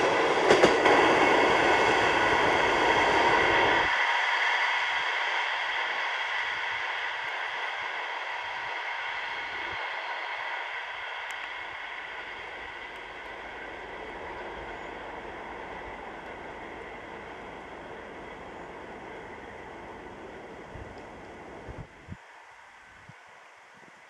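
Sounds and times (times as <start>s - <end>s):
train wheels on rails: 0.0s - 22.6s.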